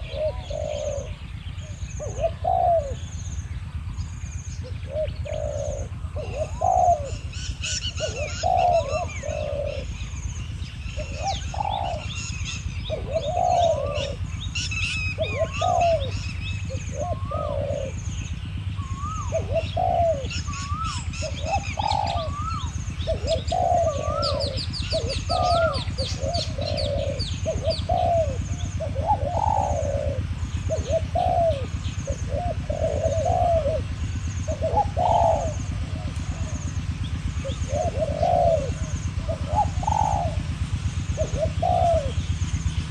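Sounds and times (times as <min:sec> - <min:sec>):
doves cooing: 0:00.0 - 0:42.9
small birds chirping: 0:00.0 - 0:42.9.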